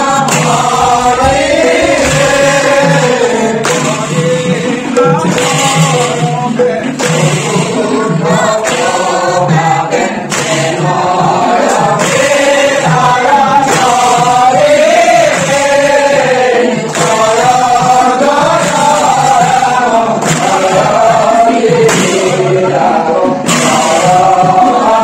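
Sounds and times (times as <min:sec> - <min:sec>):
men singing a chant: 0:00.0 - 0:25.0.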